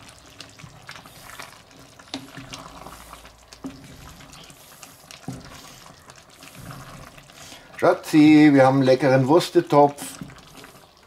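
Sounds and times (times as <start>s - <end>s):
stew bubbling and sloshing: 0.0s - 11.0s.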